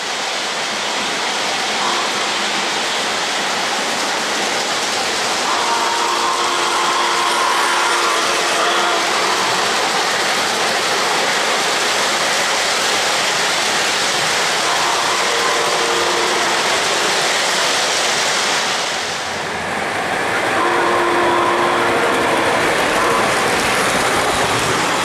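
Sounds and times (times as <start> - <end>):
model train wheels rumbling on rail: 0.0 - 25.0.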